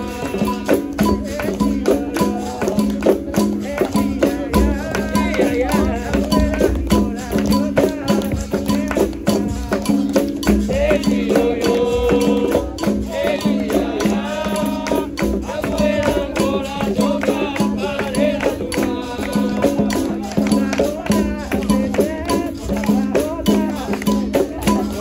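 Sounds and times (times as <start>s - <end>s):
hand drum strokes: 0.0s - 25.0s
people singing: 0.0s - 25.0s
shakers rattling: 0.0s - 25.0s.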